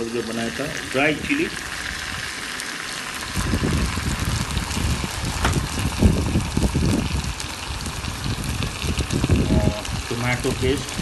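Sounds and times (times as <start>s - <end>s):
sauce sizzling in a pan: 0.0s - 11.0s.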